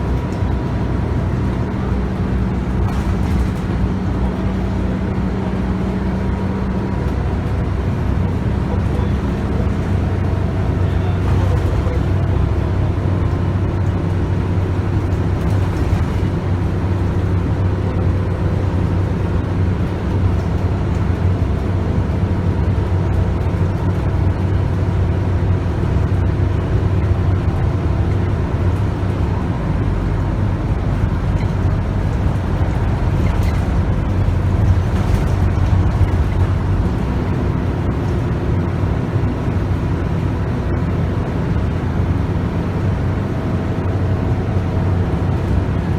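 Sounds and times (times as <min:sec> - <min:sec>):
bus diesel engine running: 0:00.0 - 0:45.9
road noise: 0:00.0 - 0:45.9.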